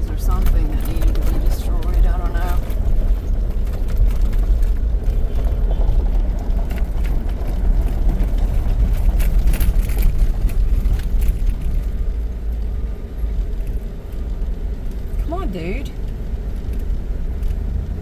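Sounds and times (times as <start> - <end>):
tyre and road noise rumble: 0.0 - 18.0.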